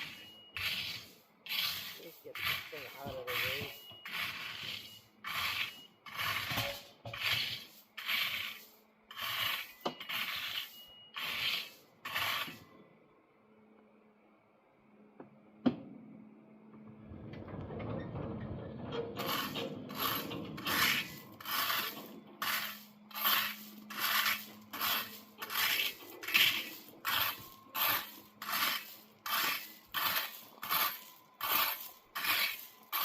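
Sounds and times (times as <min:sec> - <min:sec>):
rake scraping through gravel: 0:00.0 - 0:12.6, 0:19.2 - 0:33.0.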